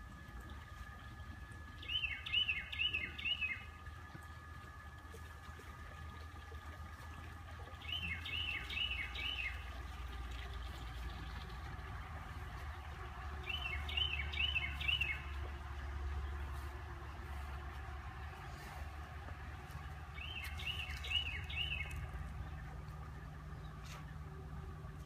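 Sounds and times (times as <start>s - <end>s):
low steady rumble: 0.0s - 25.0s
songbird singing: 1.0s - 4.3s, 7.6s - 25.0s.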